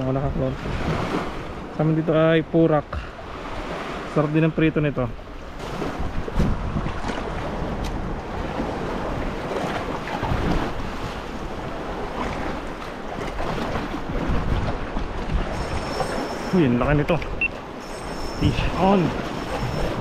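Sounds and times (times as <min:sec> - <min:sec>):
wind buffeting microphone: 0:00.0 - 0:01.7, 0:05.2 - 0:20.0
waves washing on shore: 0:00.0 - 0:20.0.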